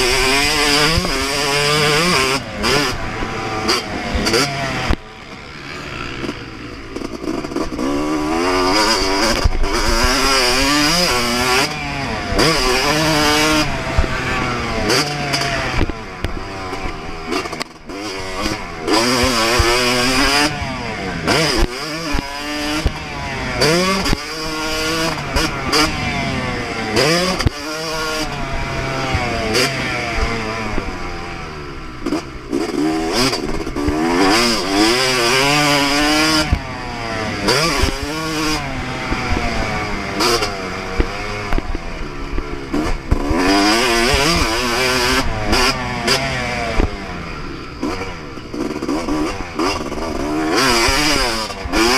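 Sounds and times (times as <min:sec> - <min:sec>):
motocross engine revving: 0:00.0 - 0:51.9.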